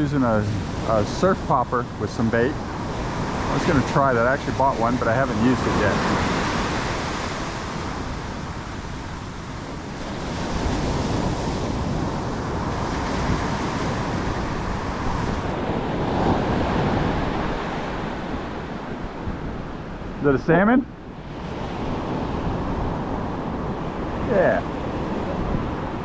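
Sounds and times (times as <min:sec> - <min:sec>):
ocean waves breaking: 0:00.0 - 0:26.0
wind on microphone: 0:00.0 - 0:26.0.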